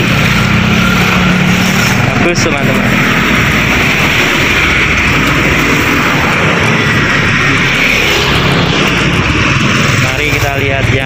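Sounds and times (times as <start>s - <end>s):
cars and motorbikes passing: 0.0s - 11.0s.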